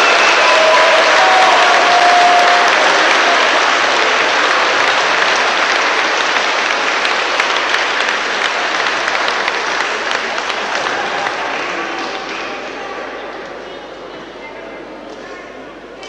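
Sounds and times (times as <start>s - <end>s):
spectators applauding: 0.0s - 14.1s.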